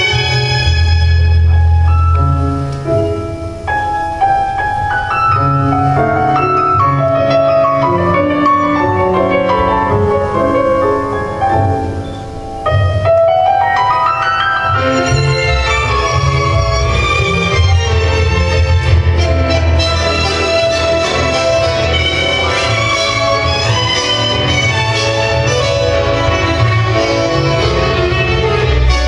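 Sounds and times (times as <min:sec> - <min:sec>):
tango music led by piano: 0:00.0 - 0:29.0.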